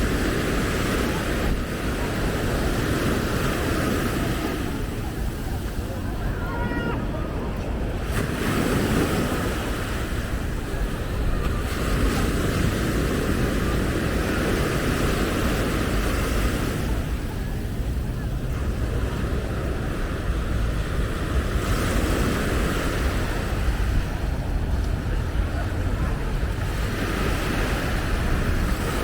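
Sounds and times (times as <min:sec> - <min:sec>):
surf breaking on beach: 0:00.0 - 0:29.0
wind rumble on microphone: 0:00.0 - 0:29.0.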